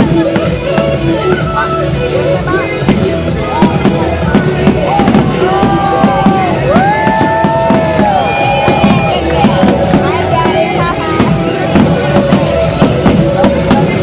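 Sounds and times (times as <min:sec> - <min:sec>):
fireworks bangs and crackles: 0:00.0 - 0:14.0
loud music: 0:00.0 - 0:14.0.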